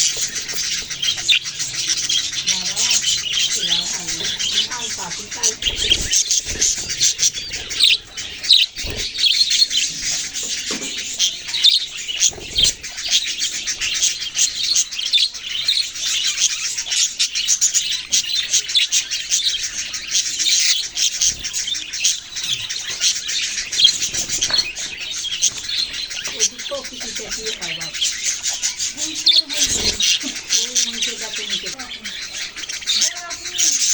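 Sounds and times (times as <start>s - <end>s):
parrots chirping and chattering: 0.0s - 33.9s.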